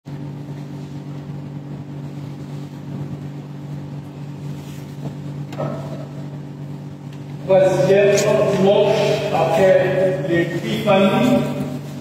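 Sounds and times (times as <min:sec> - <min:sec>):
low hum with two tones: 0:00.1 - 0:12.0.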